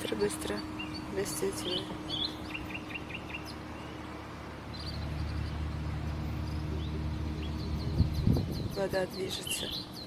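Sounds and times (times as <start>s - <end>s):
small bird chirping: 0.4s - 10.0s.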